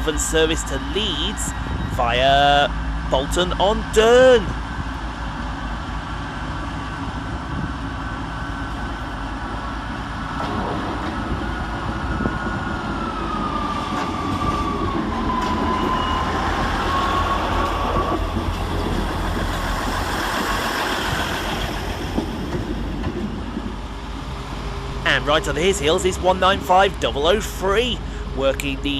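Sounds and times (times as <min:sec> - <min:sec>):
diesel train pulling away: 0:00.0 - 0:28.9.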